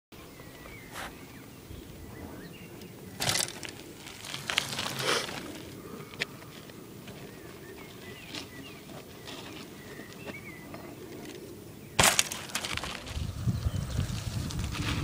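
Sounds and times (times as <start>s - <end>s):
birds chirping: 0.1s - 15.0s
bicycle tyres crunching on dirt: 2.8s - 15.0s.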